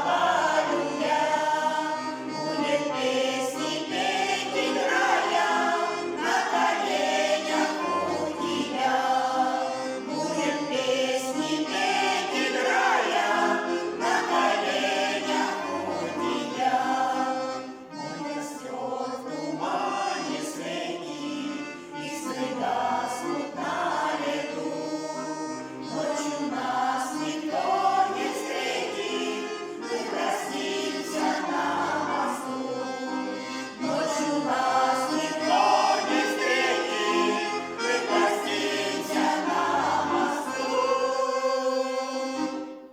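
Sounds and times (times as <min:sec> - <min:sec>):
vocal ensemble singing: 0:00.0 - 0:42.6.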